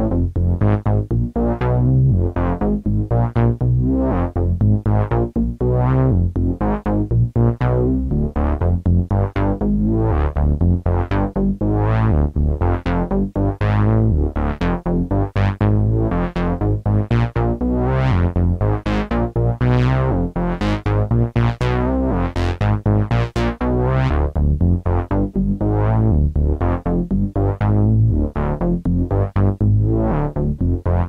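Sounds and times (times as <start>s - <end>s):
electronic music with synthesizer: 0.0s - 31.0s.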